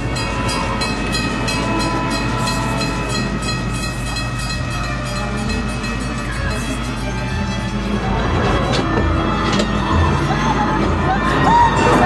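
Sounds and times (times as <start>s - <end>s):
steady sustained tones: 0.0s - 12.0s
train clattering: 0.0s - 12.0s.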